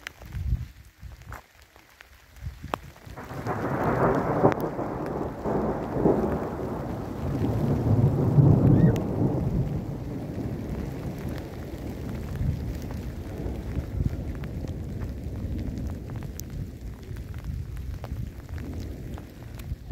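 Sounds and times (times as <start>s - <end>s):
rolling thunder: 3.1s - 19.9s.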